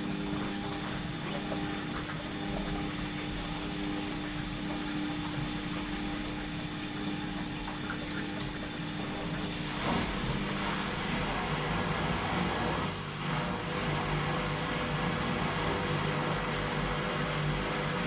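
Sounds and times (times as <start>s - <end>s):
washing machine motor hum: 0.0s - 18.0s
water flowing in machine: 0.0s - 18.0s.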